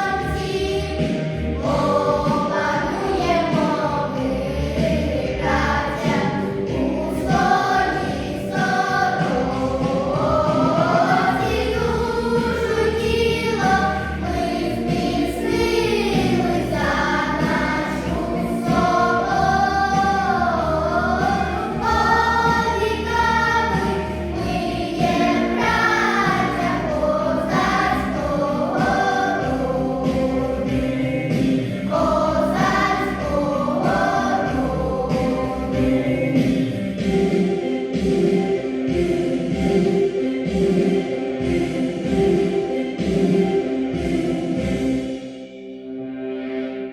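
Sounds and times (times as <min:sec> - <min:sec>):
children's choir singing: 0:00.0 - 0:46.9
instrumental backing track: 0:00.0 - 0:46.9.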